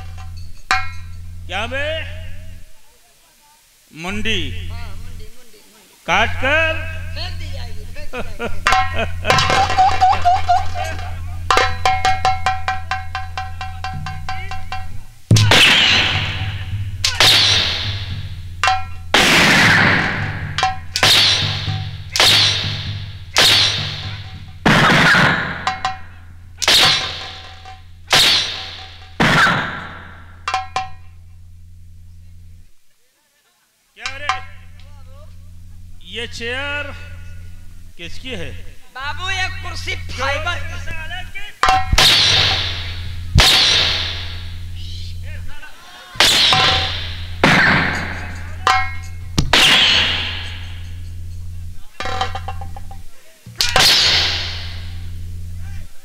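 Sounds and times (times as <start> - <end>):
sharp percussion strikes ringing: 0.0 - 2.7, 6.1 - 32.7, 34.0 - 56.0
steady low hum: 0.0 - 3.0, 3.6 - 32.9, 34.0 - 56.0.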